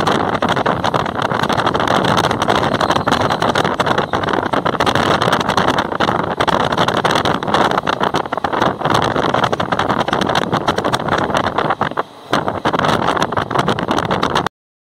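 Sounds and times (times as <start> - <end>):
rush of air from train: 0.0 - 14.5
train rattling clatter: 0.0 - 14.5.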